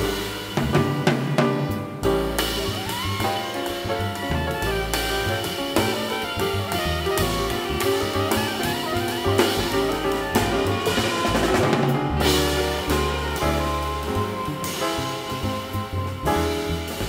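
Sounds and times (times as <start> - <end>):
drum kit with ride cymbal: 0.0 - 17.0
piano: 0.0 - 17.0
soprano saxophone: 0.0 - 17.0
walking upright bass: 0.0 - 17.0.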